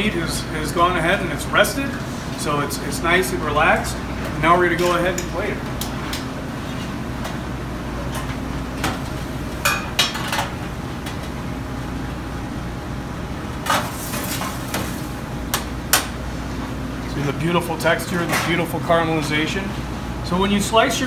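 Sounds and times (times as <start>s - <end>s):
kitchen ventilation hum: 0.0s - 21.0s.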